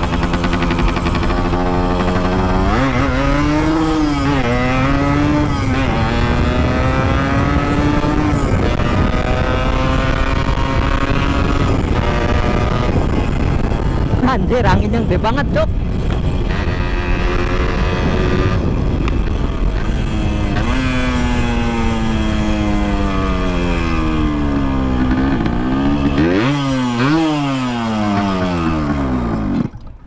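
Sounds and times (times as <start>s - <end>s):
motorcycle engine running: 0.0s - 29.8s
wind rumbling on microphone: 0.0s - 30.0s.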